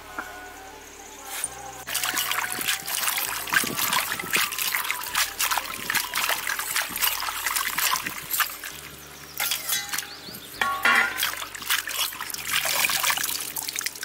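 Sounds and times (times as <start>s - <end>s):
hands rubbing leaves in water: 1.3s - 14.0s
water splashing and dripping: 1.8s - 14.0s.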